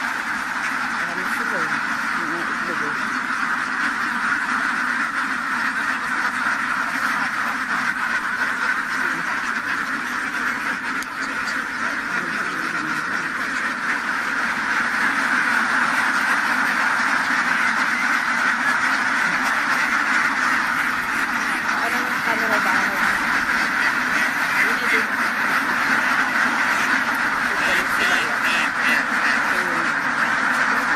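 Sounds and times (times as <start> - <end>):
flock of ducks quacking: 0.0 - 30.9.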